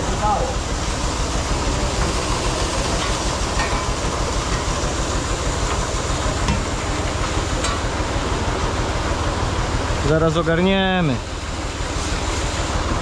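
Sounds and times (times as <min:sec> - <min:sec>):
grain pouring hiss: 0:00.0 - 0:13.0.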